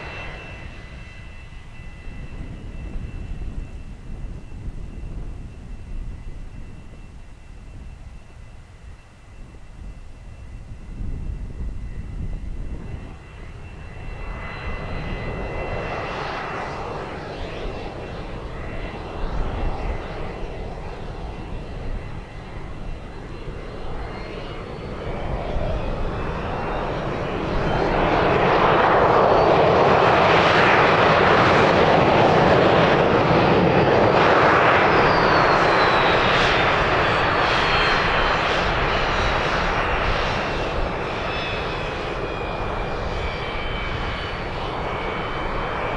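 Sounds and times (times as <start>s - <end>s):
jet engine passing by: 0.0s - 45.9s.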